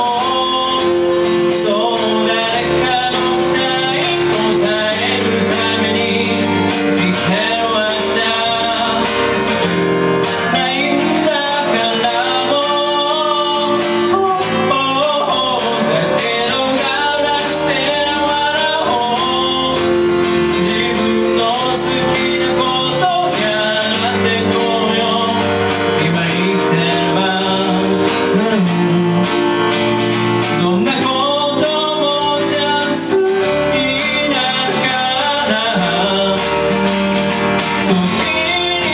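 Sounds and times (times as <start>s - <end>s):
electronic keyboard: 0.0s - 38.9s
man singing: 0.0s - 38.9s
strummed acoustic guitar: 0.0s - 38.9s.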